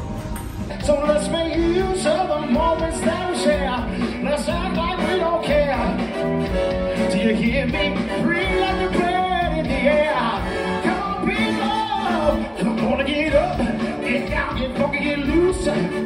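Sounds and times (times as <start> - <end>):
live band music: 0.0 - 16.0
man singing into a microphone: 0.8 - 6.0, 6.9 - 16.0.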